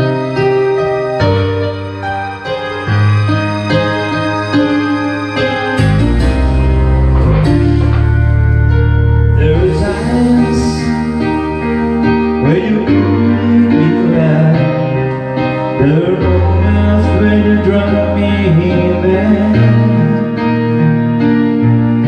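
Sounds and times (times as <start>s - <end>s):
song with singing over speakers: 0.0s - 22.0s
sustained bass notes: 0.0s - 22.0s.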